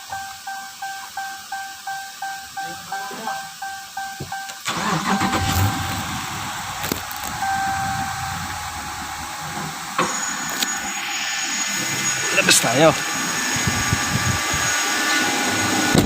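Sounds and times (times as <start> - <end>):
car electronic beeping: 0.0 - 14.0
car engine cranking and running: 0.0 - 16.0.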